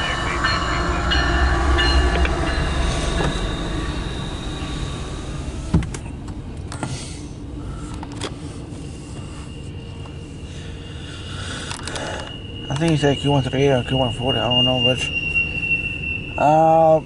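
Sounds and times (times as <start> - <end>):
train wheel squeal: 0.0 - 6.4, 7.0 - 17.0
freight train rumbling past: 0.0 - 17.0.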